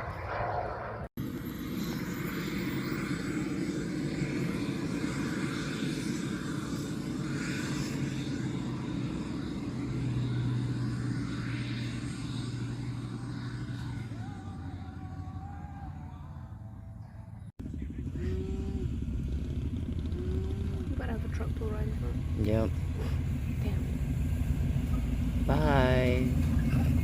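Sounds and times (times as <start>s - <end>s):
engine drone with low hum: 0.0s - 27.0s.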